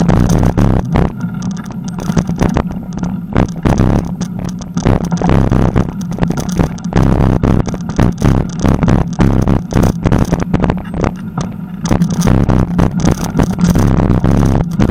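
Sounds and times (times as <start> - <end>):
bicycle knocks and rattles: 0.0 - 14.9.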